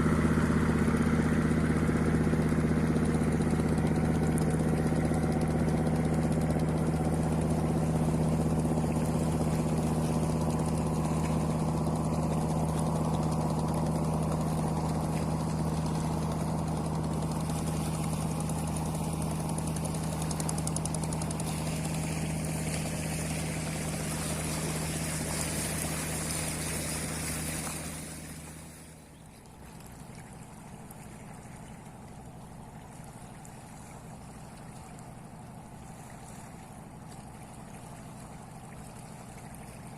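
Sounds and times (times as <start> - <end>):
boat engine drone: 0.0 - 39.9.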